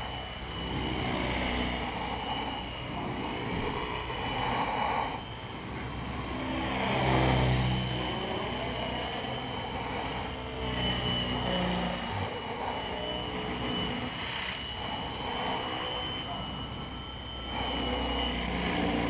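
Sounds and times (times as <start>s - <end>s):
high-pitched whine: 0.0s - 19.0s
rc helicopter rotor hum: 0.0s - 19.0s.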